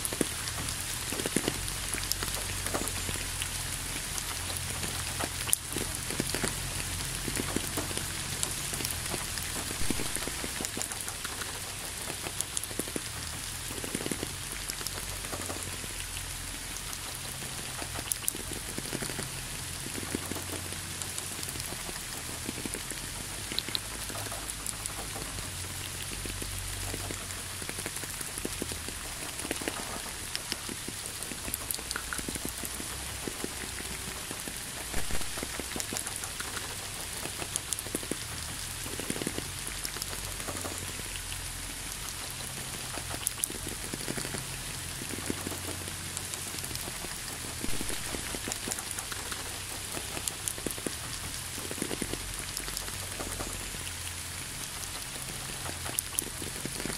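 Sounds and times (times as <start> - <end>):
raindrops tapping: 0.0 - 56.9
steady rain falling: 0.0 - 56.9.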